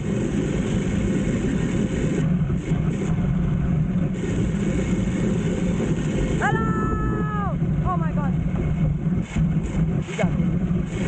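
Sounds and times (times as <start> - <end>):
bicycle rumbling on steel cable: 0.0 - 11.0.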